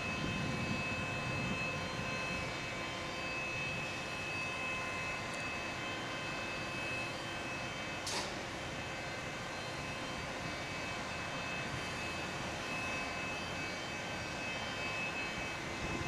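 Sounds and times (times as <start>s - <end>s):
train mechanical drone: 0.0s - 16.0s.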